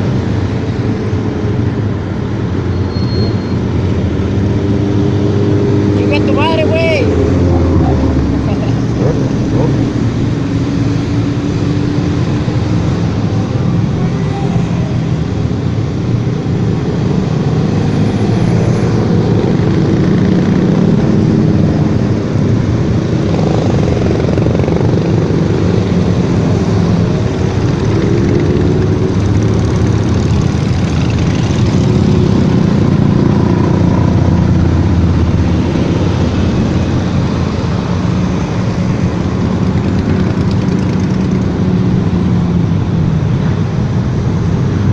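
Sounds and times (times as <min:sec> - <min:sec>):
motorcycle engines running: 0:03.7 - 0:44.9.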